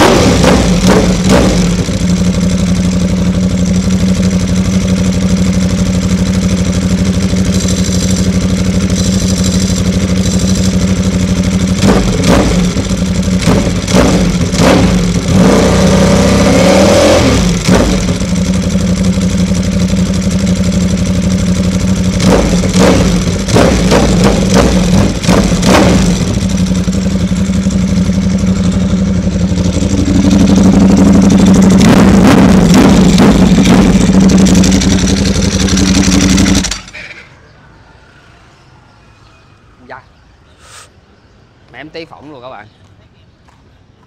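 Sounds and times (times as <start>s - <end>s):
motorcycle engine revving: 0.0s - 37.2s.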